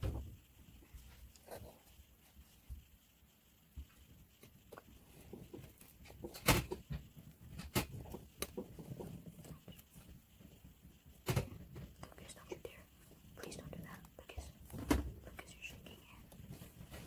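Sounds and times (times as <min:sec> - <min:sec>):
rustling: 0:00.0 - 0:17.0.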